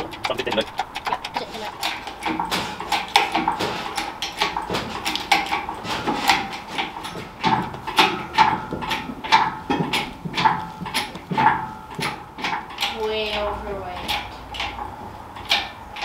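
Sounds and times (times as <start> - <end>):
crane squeaking and creaking: 0.0 - 16.0
hydraulic crane pumping clicks: 0.0 - 16.0.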